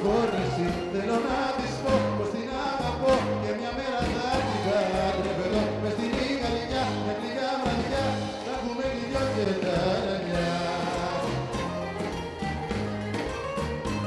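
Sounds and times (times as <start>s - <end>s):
man singing into a microphone: 0.0s - 11.8s
bass line: 0.0s - 14.0s
bouzouki: 0.0s - 14.0s
drum kit: 0.0s - 14.0s.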